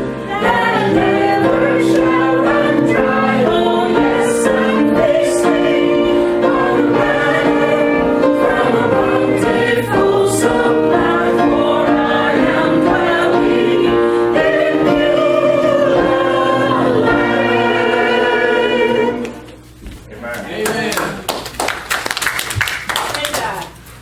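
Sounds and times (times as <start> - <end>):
choir singing: 0.0 - 19.6.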